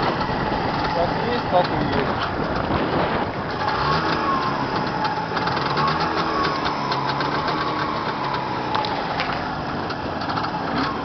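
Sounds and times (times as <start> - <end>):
two-stroke engine running: 0.0 - 11.0.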